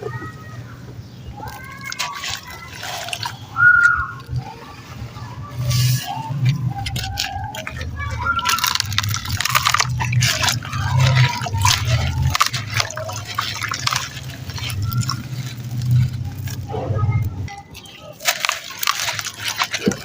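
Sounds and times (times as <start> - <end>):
lumps splashing into water: 1.4 - 5.0, 5.6 - 20.0.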